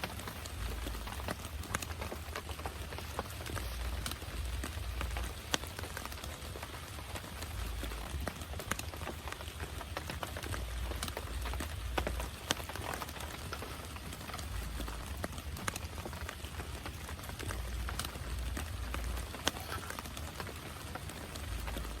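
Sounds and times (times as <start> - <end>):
heavy rain hiss: 0.0 - 22.0
raindrops tapping surface: 0.0 - 22.0.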